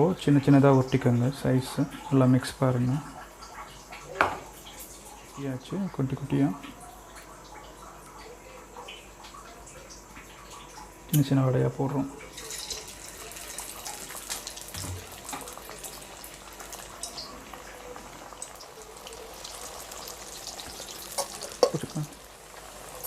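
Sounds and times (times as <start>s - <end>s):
vadas sizzling in hot oil: 0.0s - 23.0s.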